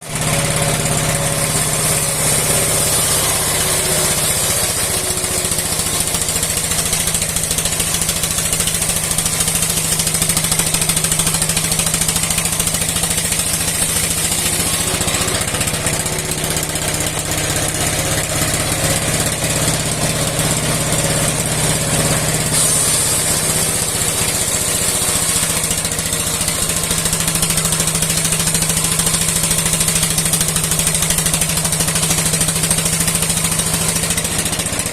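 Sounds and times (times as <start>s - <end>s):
old engine running: 0.0s - 34.9s
wood-splitting saw: 0.0s - 34.9s.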